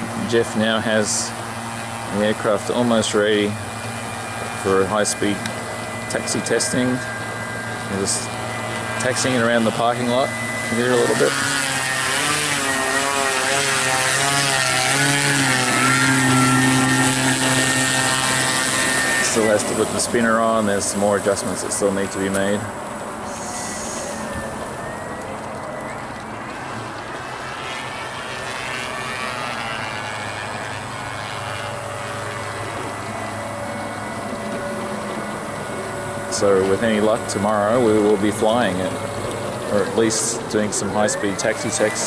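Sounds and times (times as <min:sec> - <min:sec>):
model aircraft motor and propeller: 0:00.0 - 0:42.0
thin high whine: 0:00.0 - 0:42.0.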